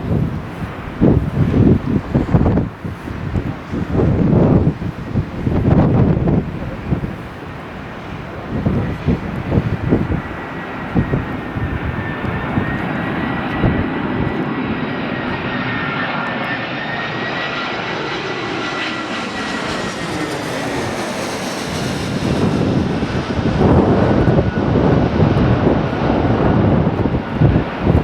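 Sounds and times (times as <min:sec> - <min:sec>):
jet airliner engines whining: 0:00.0 - 0:28.0
wind buffeting microphone: 0:00.0 - 0:28.0.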